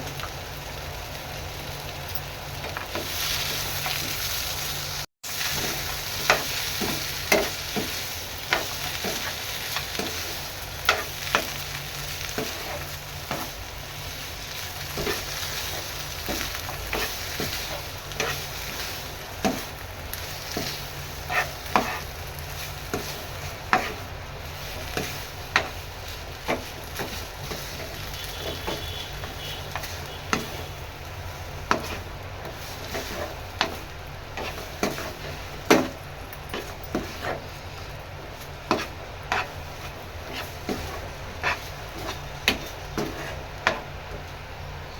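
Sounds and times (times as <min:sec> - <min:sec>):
food sizzling in a pan: 0:00.0 - 0:43.9
spatula scraping against pan: 0:05.4 - 0:43.9.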